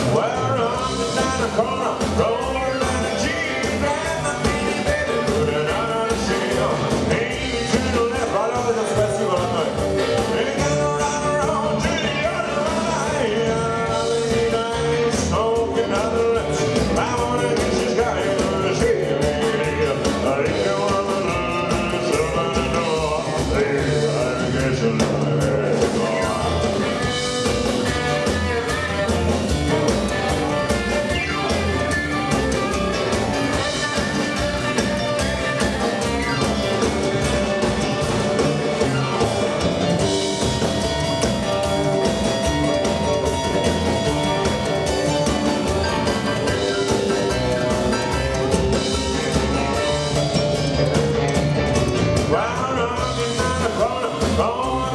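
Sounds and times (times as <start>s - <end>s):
person singing: 0.0s - 51.3s, 51.9s - 54.9s
drums: 0.0s - 54.9s
electric guitar: 0.0s - 54.9s
keyboard: 0.0s - 54.9s
upright double bass: 0.0s - 54.9s.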